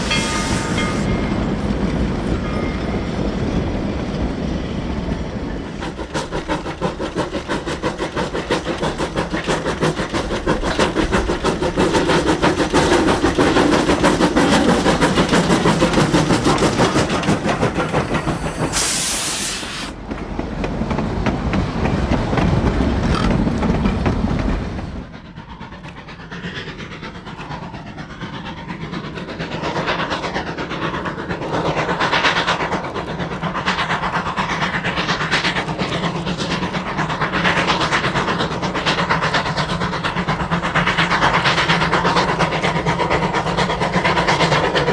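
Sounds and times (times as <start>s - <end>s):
steam hiss: 0.0s - 1.7s, 5.6s - 20.0s, 24.7s - 44.9s
steam locomotive exhaust and rolling: 0.0s - 44.9s.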